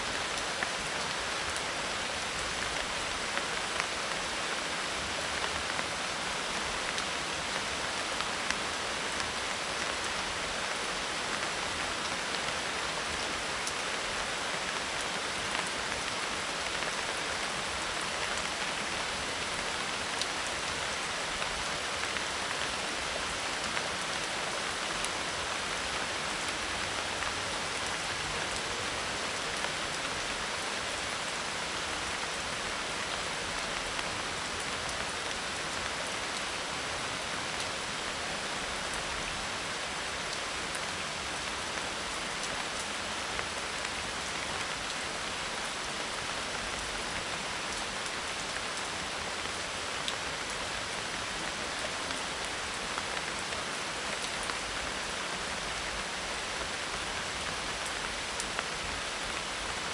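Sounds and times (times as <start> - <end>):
rain on thatched roof: 0.0 - 59.9.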